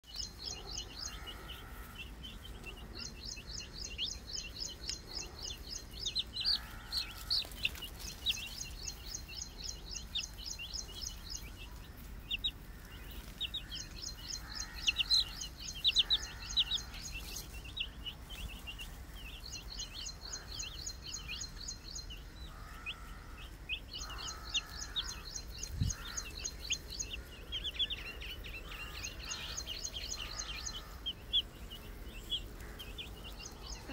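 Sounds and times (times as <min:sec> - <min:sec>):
baby chicks peeping: 0:00.0 - 0:33.9
lower fuller bird calls: 0:00.0 - 0:33.9.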